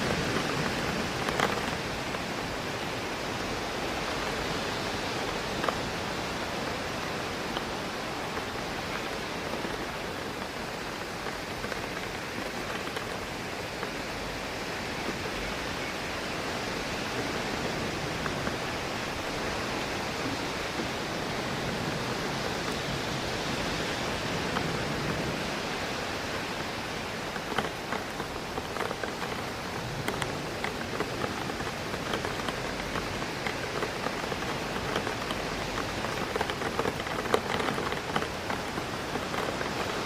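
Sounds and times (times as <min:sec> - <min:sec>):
raindrops tapping on window glass: 0:00.0 - 0:40.0
steady rain: 0:00.0 - 0:40.0
wind rushing through trees: 0:00.0 - 0:40.0.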